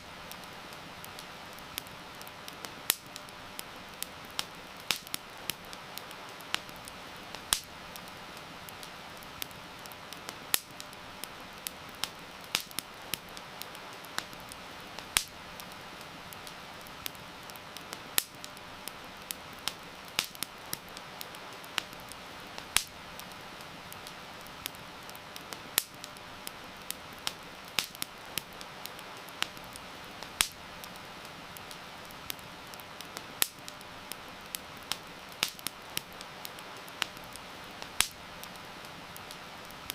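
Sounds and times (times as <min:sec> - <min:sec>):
campfire crackling and popping: 0:00.0 - 0:39.9
heavy rain hiss: 0:00.0 - 0:39.9.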